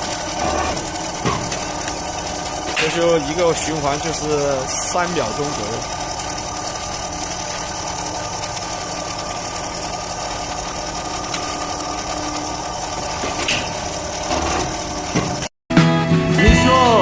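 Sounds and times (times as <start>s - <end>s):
flaring machine humming: 0.0s - 15.5s.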